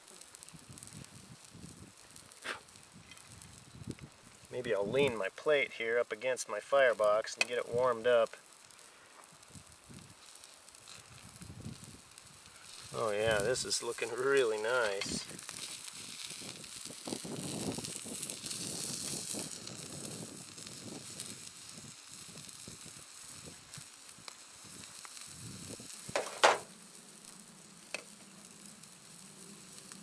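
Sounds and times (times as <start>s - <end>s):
egg sizzling on hot steel: 0.0s - 30.0s.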